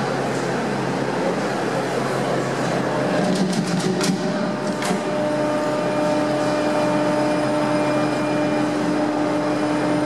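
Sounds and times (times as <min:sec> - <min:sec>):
winch mechanical hum and whine: 0:00.0 - 0:10.0.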